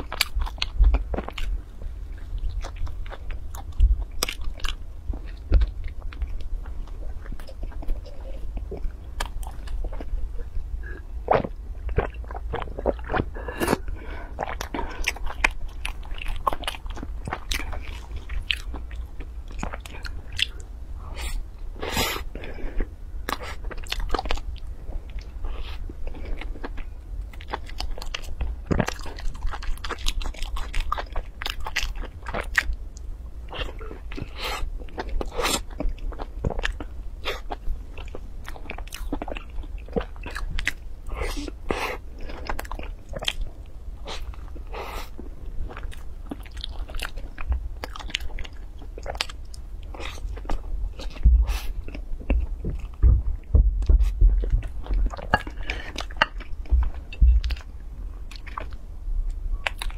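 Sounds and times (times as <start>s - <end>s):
chewing bread: 0.0s - 21.3s, 22.0s - 58.8s, 59.6s - 59.9s.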